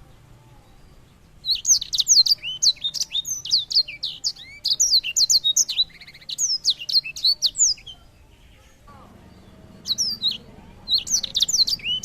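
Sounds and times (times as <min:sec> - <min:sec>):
songbird warbling: 0:00.0 - 0:12.0.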